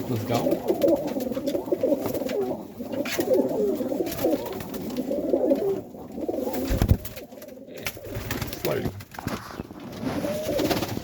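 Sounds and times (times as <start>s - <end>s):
pigeons cooing: 0.0s - 8.8s, 9.4s - 11.0s.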